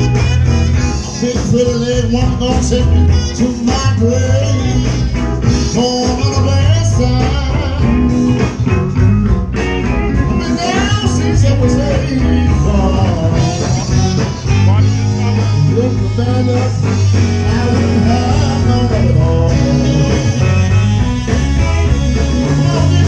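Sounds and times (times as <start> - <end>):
person singing: 0.0 - 8.4, 10.2 - 20.8, 22.2 - 23.0
guitar: 0.0 - 23.0
strong bass line: 0.0 - 23.0.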